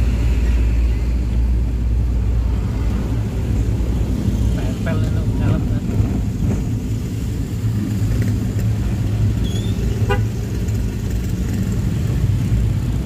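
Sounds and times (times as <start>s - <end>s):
vehicle engine and tyres rumble: 0.0s - 13.0s.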